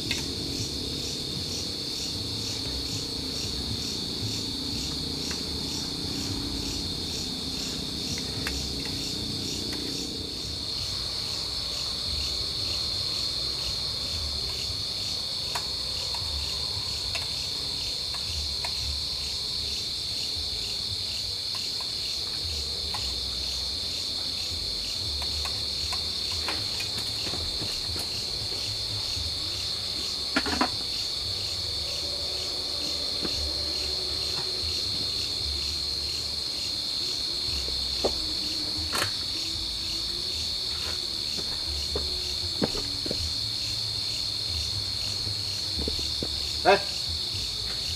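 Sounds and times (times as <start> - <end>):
insects trilling at night: 0.0 - 47.9.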